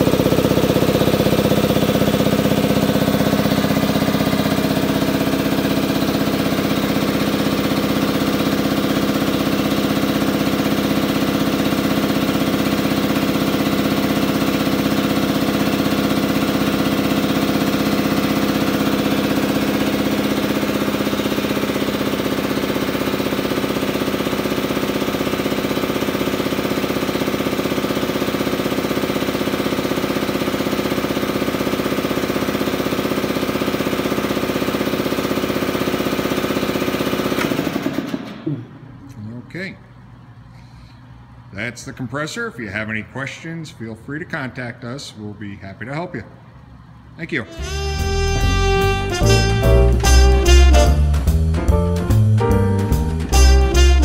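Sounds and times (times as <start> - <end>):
air compressor humming and pulsing: 0.0 - 54.0.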